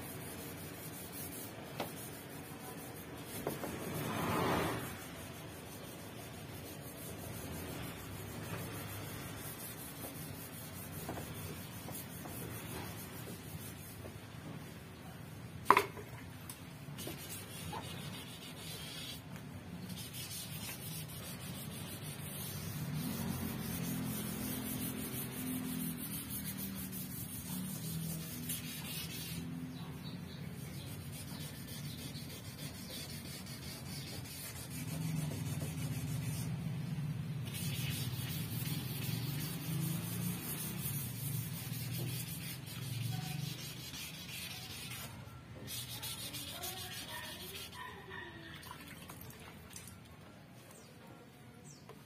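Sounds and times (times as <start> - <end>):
sandpaper rubbing on car panel: 0.0 - 14.5, 16.8 - 48.0.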